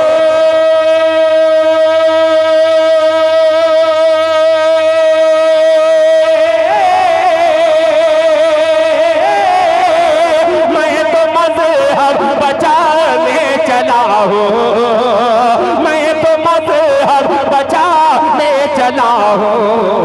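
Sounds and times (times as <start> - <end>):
man singing through microphone: 0.0 - 20.0.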